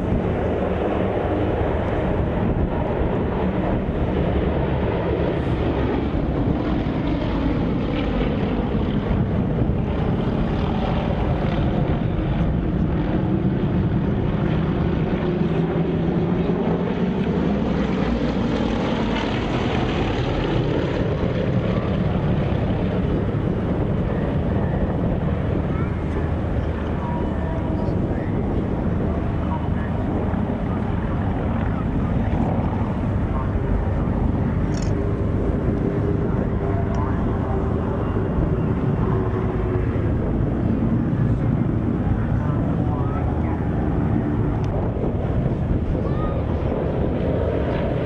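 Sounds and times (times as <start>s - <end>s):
aircraft engine flying past: 0.0s - 48.0s.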